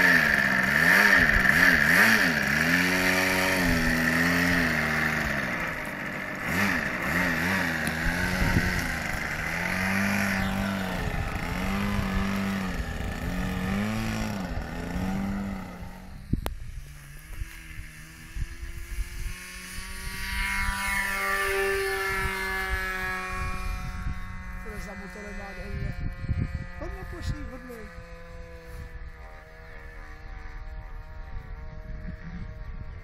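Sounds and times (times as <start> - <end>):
small aircraft engine revving: 0.0 - 33.0.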